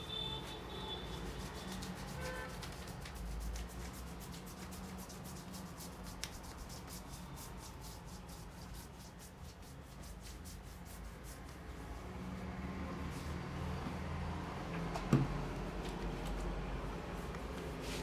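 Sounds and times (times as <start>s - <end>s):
rubbing over hair and scalp: 0.0s - 13.6s, 16.3s - 18.0s.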